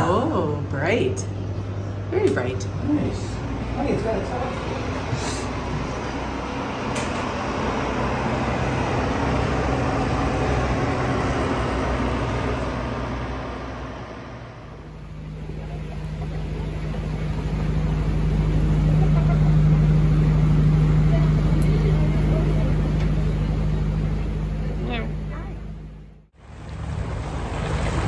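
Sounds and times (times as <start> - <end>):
road traffic noise: 0.0 - 28.0
vehicle engine droning: 0.0 - 28.0.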